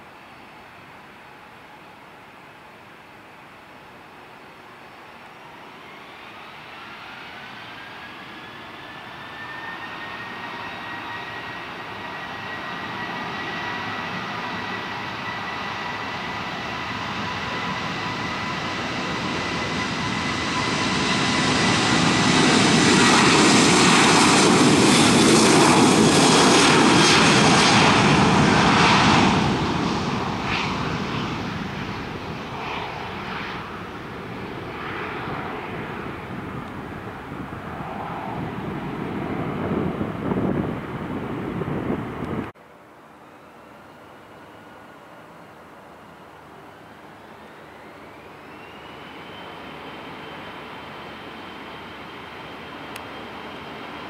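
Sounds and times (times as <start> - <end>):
jet takeoff roar: 5.4 - 42.6, 46.7 - 54.0.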